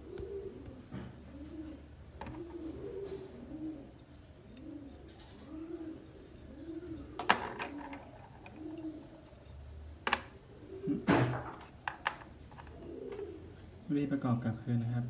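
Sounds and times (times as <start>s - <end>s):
dove cooing: 0.0s - 13.9s.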